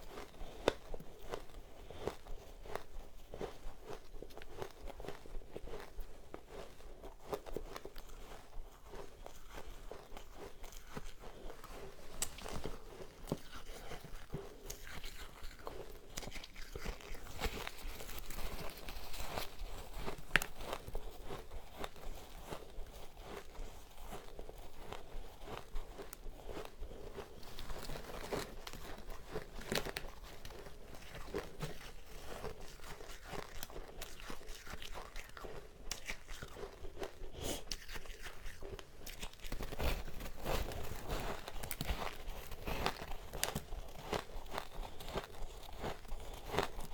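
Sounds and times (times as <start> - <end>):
person chewing crunchy ice: 0.0 - 46.9.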